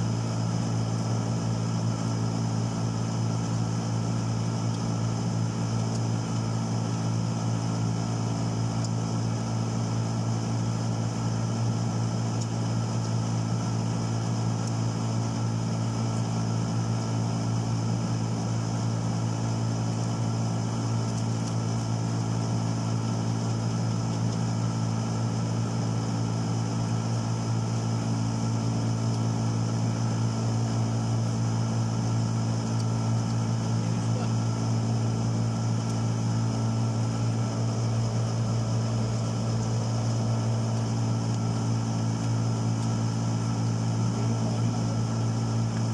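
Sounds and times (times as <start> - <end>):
motor humming: 0.0 - 45.9.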